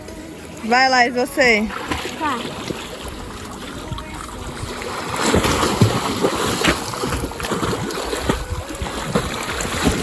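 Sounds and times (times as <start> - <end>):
water splashing in a pool: 0.0 - 10.0.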